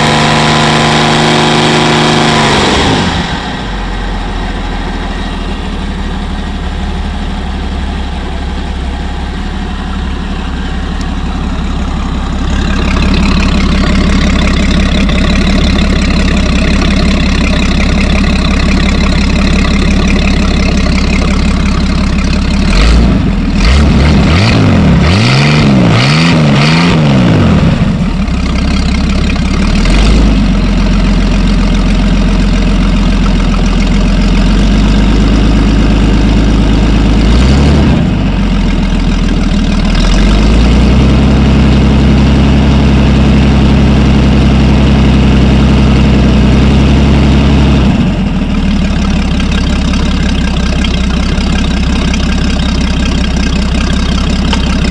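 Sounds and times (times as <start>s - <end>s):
boat engine idling and revving: 0.0s - 54.9s.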